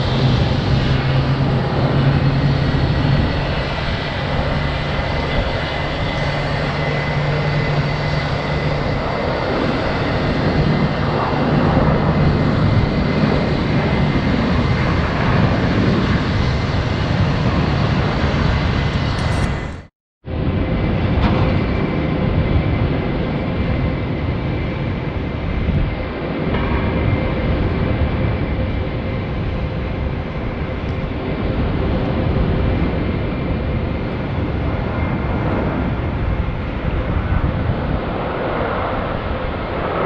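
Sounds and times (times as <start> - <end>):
high-pitched engine whine: 0.0 - 40.0
jet engines roaring: 0.0 - 40.0.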